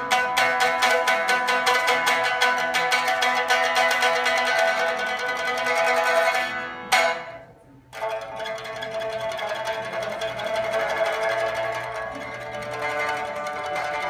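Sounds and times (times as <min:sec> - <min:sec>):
pipa tremolo plucking: 0:00.0 - 0:14.0.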